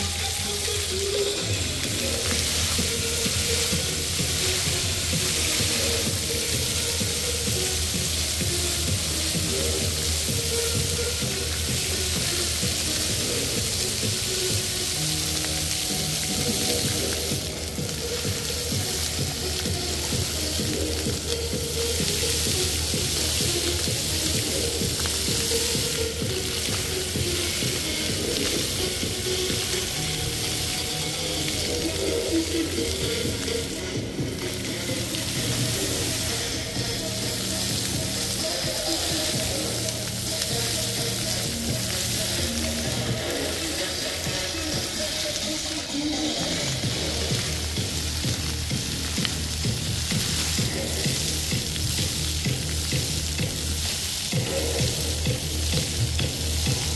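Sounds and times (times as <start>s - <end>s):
fountain water splashing: 0.0s - 56.9s
music playing: 0.0s - 56.9s.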